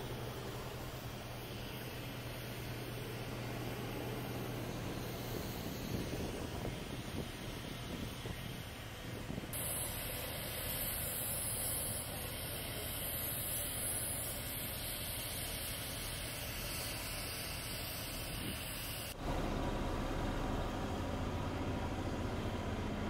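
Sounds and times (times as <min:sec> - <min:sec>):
high hiss: 0:00.0 - 0:19.3
outdoor background noise: 0:00.0 - 0:23.0.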